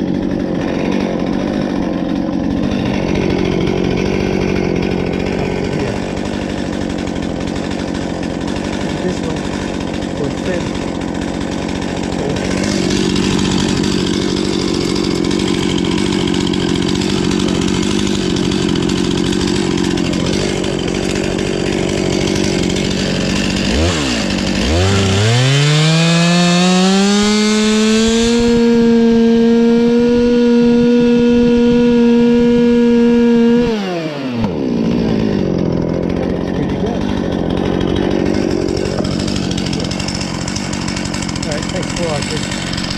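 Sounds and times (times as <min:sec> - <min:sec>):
chainsaw cutting a log: 0:00.0 - 0:42.9.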